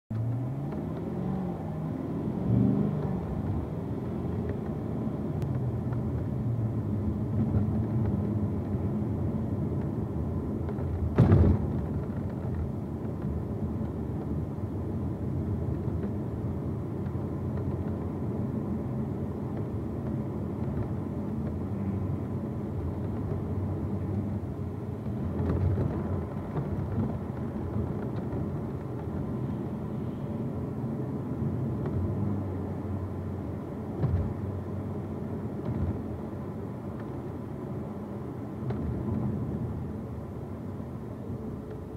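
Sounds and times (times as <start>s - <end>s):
road rumble: 0.1s - 41.9s.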